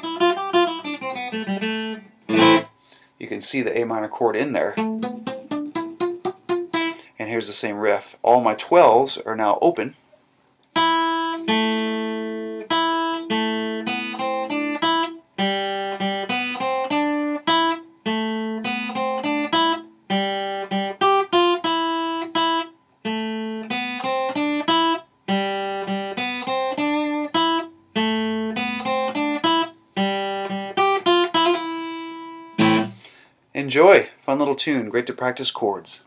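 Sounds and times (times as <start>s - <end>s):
acoustic guitar riff: 0.0s - 7.4s, 10.7s - 33.3s.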